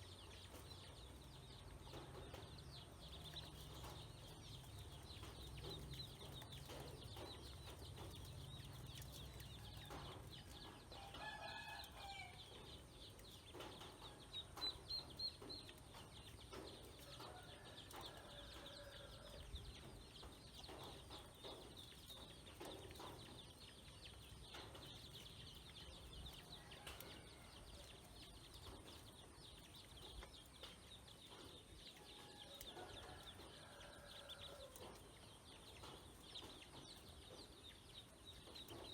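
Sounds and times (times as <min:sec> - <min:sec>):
chickens clucking: 0:00.1 - 0:38.9.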